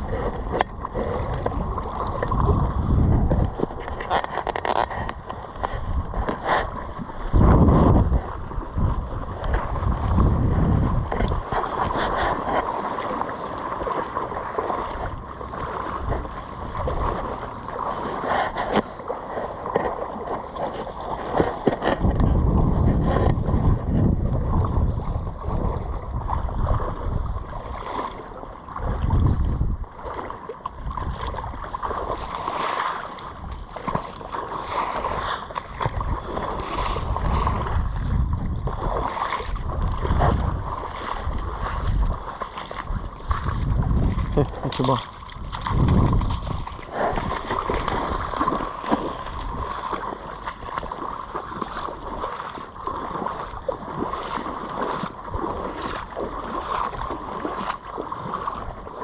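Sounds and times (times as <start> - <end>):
wind buffeting microphone: 0.0 - 13.0, 13.8 - 18.8, 20.9 - 32.6, 33.2 - 59.0
flowing floodwater rushing: 0.0 - 22.0, 24.4 - 59.0.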